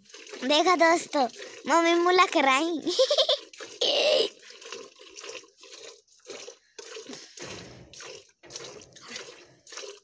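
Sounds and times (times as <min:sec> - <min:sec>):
milk spurting into steel bucket: 0:00.0 - 0:10.0.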